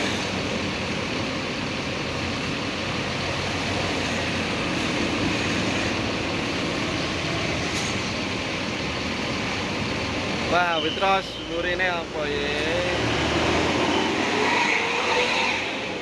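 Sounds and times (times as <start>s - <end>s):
bus engine low drone: 0.0s - 16.0s.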